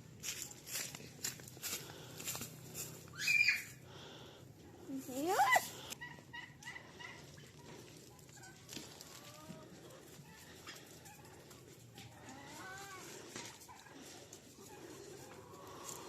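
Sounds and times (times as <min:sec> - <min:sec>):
chickens clucking: 0:00.2 - 0:16.0.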